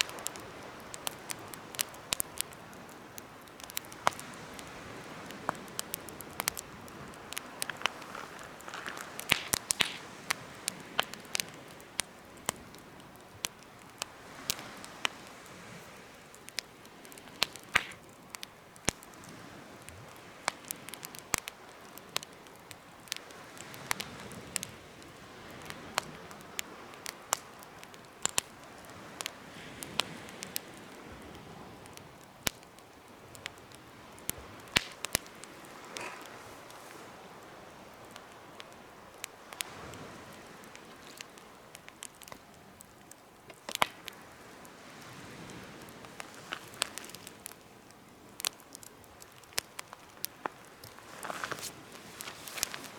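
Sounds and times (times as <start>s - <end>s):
campfire crackles and pops: 0.0s - 52.9s
steady rush of flame: 0.0s - 52.9s.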